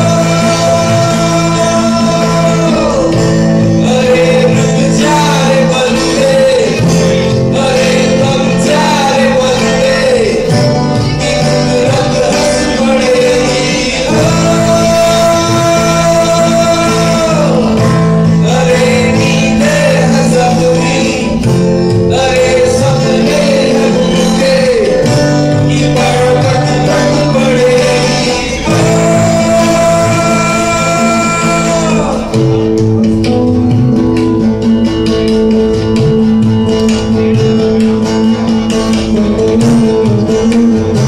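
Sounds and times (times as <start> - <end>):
man singing: 0.0 - 35.0
guitars: 0.0 - 41.0.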